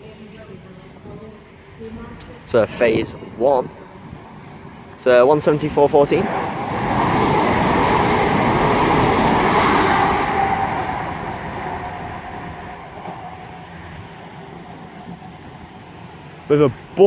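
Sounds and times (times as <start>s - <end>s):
diesel train passing at speed: 0.0s - 17.0s.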